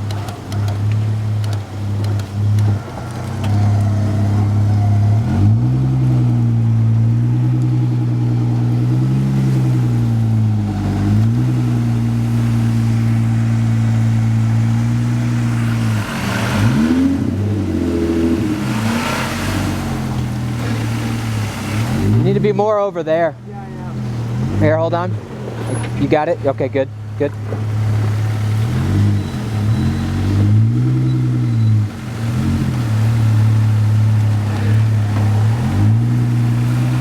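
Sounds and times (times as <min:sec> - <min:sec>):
vehicle engine revving: 0:00.0 - 0:37.0.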